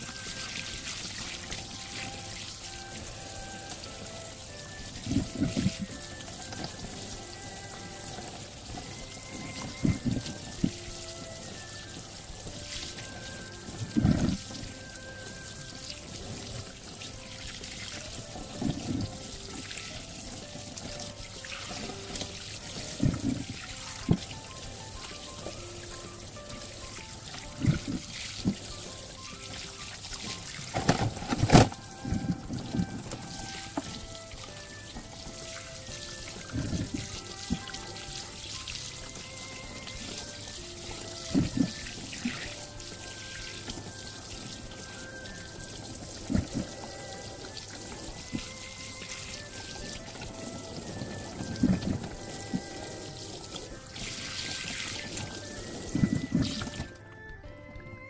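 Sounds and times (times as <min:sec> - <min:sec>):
running splashing water: 0:00.0 - 0:57.1
background music: 0:00.0 - 0:58.0.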